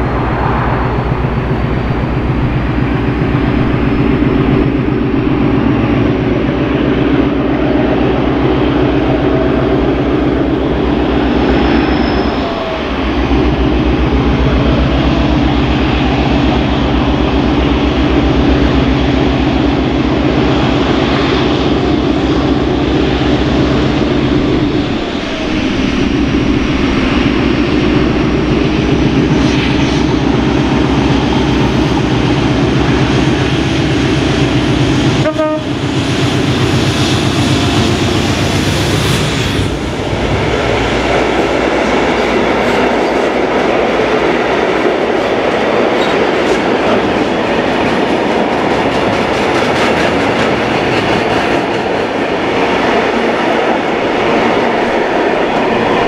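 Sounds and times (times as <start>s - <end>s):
diesel locomotive engine working hard: 0.0s - 56.0s
train wagons clattering over rails: 0.0s - 56.0s.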